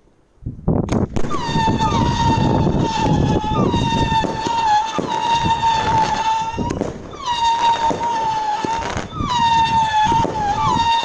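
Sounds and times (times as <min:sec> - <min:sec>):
firework crackling and pops: 0:00.8 - 0:11.0
sharp firework crack: 0:00.8 - 0:11.0
whistling fireworks: 0:00.9 - 0:11.0.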